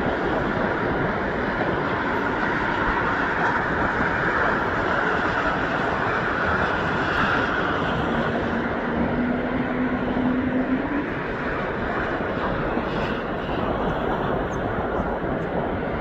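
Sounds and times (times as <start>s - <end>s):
faint engine whine: 0.0s - 16.0s
jet engines rushing: 0.0s - 16.0s.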